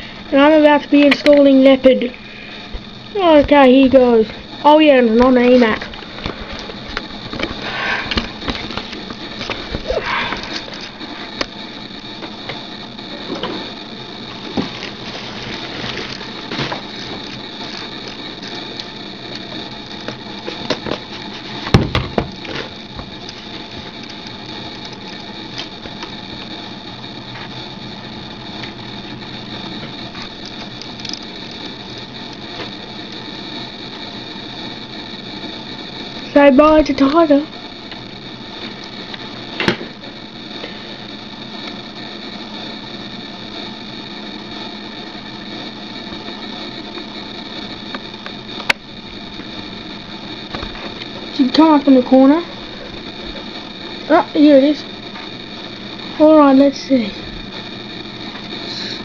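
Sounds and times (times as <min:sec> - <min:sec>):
electronic hum with high whine: 0:00.0 - 0:59.0.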